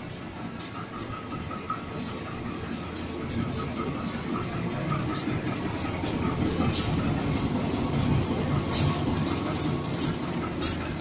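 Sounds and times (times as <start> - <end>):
diesel locomotive engine rumbling: 0.0 - 11.0.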